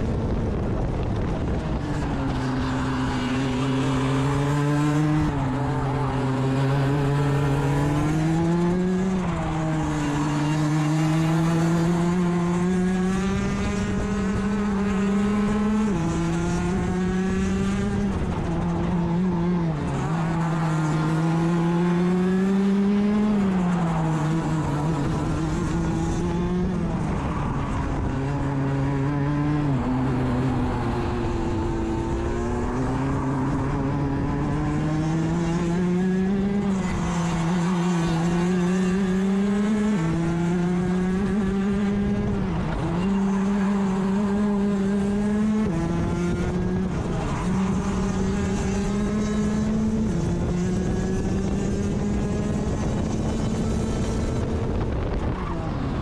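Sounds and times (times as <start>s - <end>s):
kart two-stroke engine racing: 0.0s - 56.0s.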